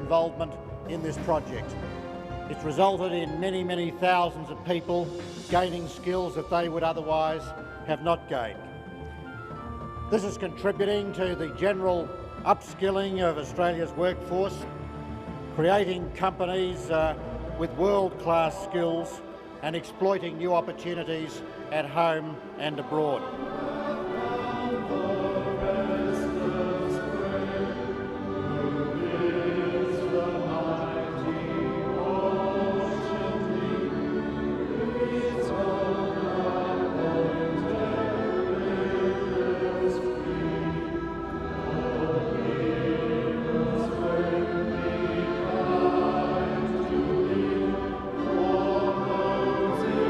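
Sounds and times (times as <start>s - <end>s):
choir singing long held notes: 0.0s - 50.0s.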